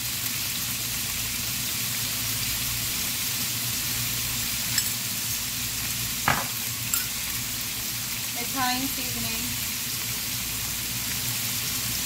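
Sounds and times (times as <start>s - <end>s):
chicken sizzling in a skillet: 0.0s - 12.0s.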